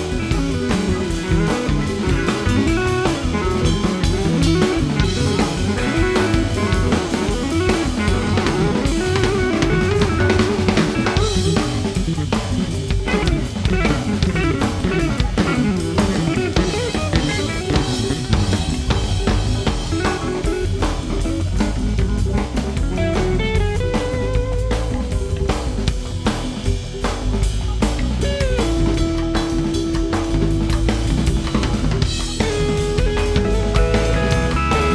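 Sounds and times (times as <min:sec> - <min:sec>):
band music with drums bass guitar: 0:00.0 - 0:34.9.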